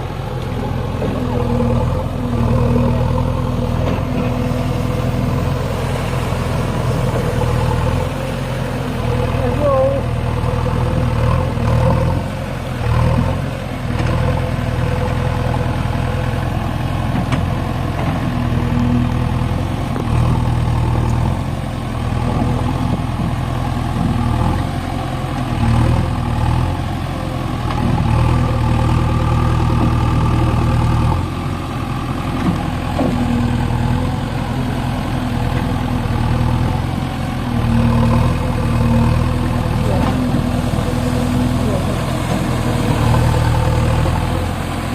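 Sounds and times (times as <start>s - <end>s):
diesel engine revving: 0.0s - 44.9s.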